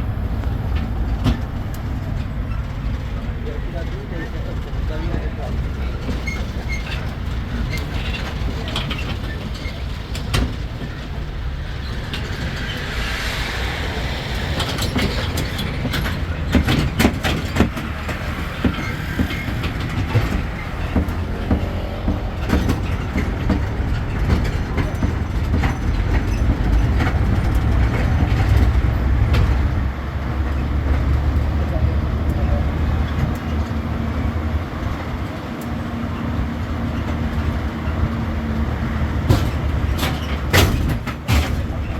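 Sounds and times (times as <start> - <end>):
carriages rattling and knocking: 0.0 - 41.9
low engine rumble: 0.0 - 41.9.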